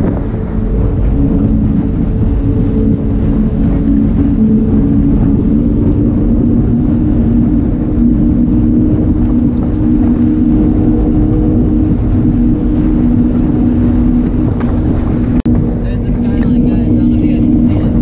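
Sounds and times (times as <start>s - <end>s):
constant rushing noise: 0.0s - 18.0s
outboard engines droning: 0.0s - 18.0s.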